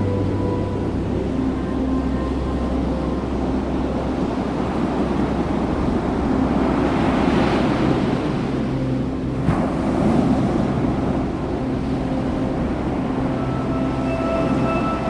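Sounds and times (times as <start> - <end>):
ocean surf on beach: 2.8 - 15.0.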